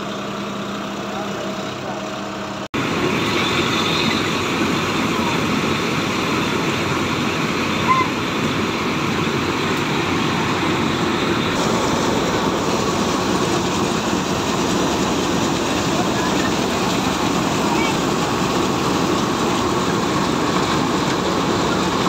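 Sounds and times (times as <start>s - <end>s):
combine harvester machinery running: 0.0s - 22.0s.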